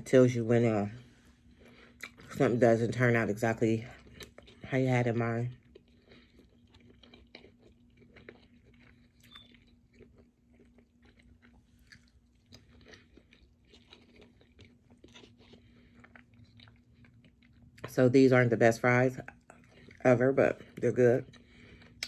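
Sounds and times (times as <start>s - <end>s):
person chewing crunchy food: 1.0s - 2.5s, 3.8s - 17.9s, 19.2s - 22.0s.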